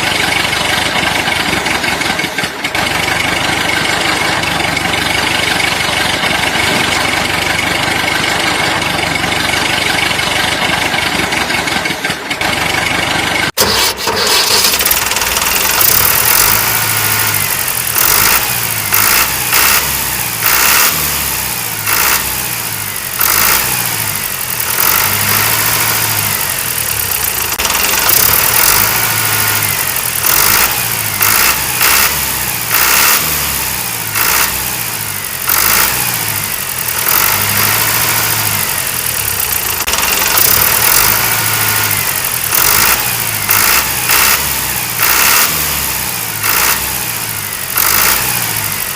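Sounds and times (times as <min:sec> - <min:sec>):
small engine running unevenly: 0:00.0 - 0:48.9.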